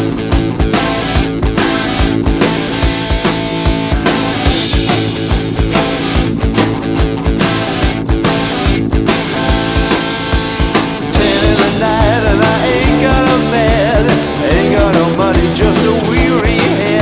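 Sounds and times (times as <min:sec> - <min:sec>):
rock band playing: 0:00.0 - 0:17.0
wavering lead guitar melody: 0:00.0 - 0:17.0.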